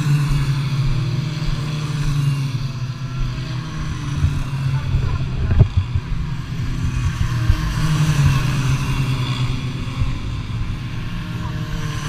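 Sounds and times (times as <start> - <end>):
small racing engine running: 0.0 - 12.0
wind rushing over microphone: 0.0 - 12.0.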